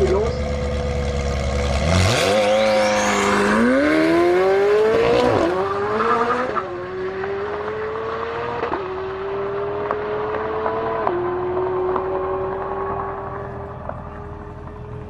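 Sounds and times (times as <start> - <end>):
car engine accelerating with upshifts: 0.0 - 15.0.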